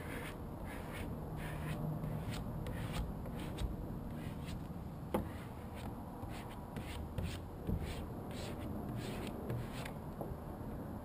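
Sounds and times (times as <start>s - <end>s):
squeegee rubbing on vinyl: 0.0s - 4.6s, 5.2s - 10.0s.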